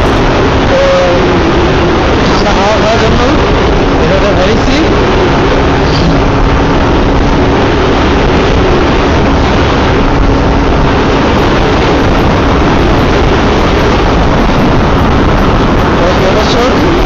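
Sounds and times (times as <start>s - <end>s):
faint motorcycle engine hum: 0.0s - 17.0s
wind noise on microphone: 0.0s - 17.0s.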